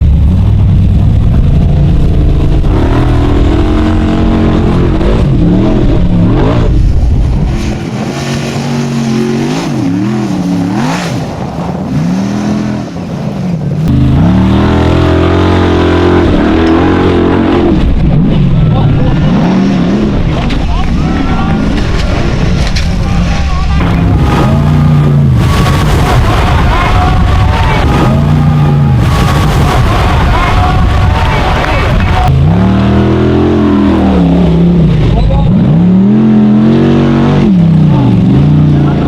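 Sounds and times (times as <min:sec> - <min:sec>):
racing car engine revving: 0:00.0 - 0:13.2, 0:13.8 - 0:39.0.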